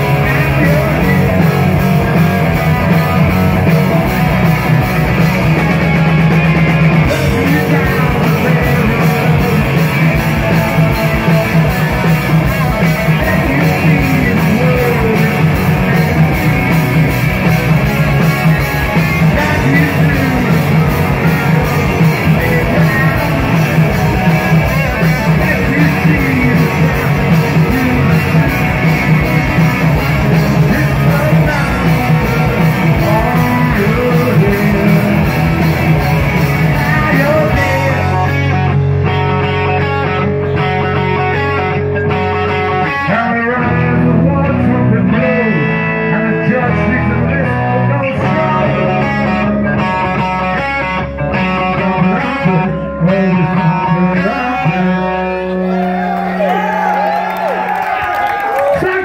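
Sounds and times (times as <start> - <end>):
person singing: 0.0 - 4.4, 7.0 - 17.0, 18.5 - 56.5
rock band playing: 0.0 - 59.0.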